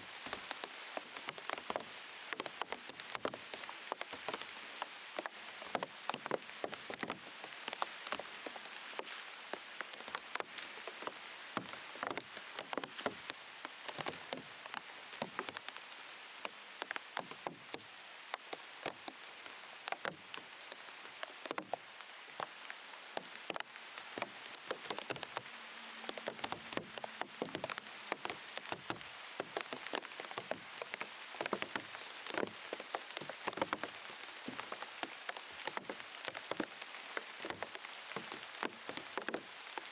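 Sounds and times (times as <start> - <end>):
raindrops tapping on plastic sheet: 0.0 - 39.9
steady rain hiss: 0.0 - 39.9.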